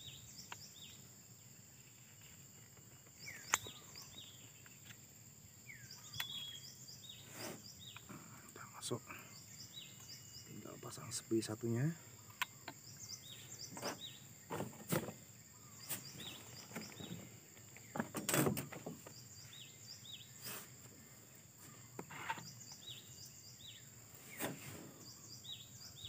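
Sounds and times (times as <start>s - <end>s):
bird chirping: 0.0s - 26.0s
high insect drone: 0.0s - 26.0s.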